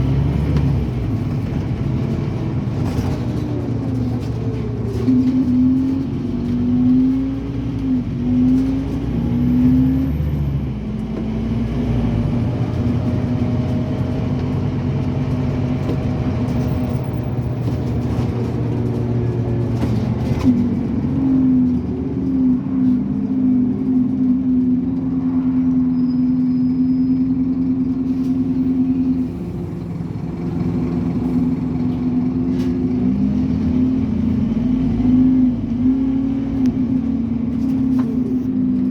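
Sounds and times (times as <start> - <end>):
bus diesel engine pulling: 0.0 - 38.9.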